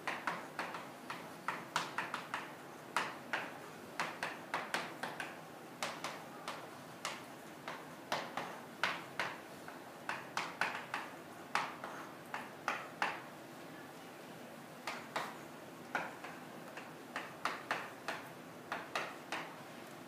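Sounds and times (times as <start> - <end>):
chalk tapping on blackboard: 0.0 - 13.2, 14.8 - 19.6.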